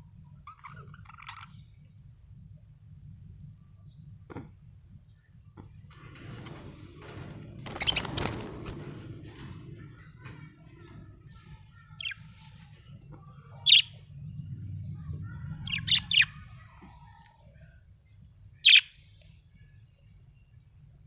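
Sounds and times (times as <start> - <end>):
steady low hum: 1.6 - 18.6.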